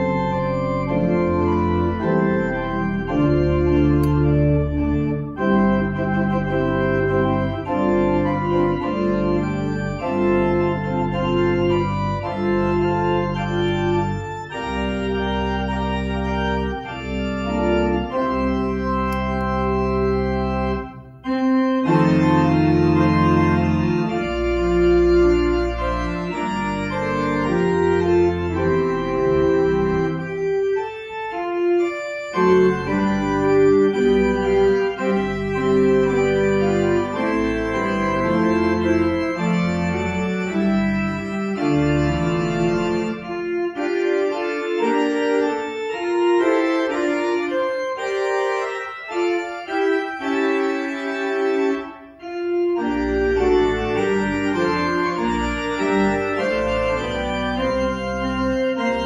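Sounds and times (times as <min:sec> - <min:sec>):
church organ chords: 0:00.0 - 0:59.0
organ pedal bass line: 0:00.0 - 0:59.0.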